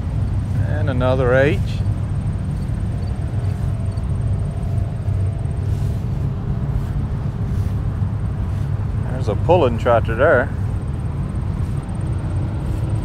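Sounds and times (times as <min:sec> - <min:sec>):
faint steady hums: 0:00.0 - 0:13.0
low engine rumble: 0:00.0 - 0:13.0.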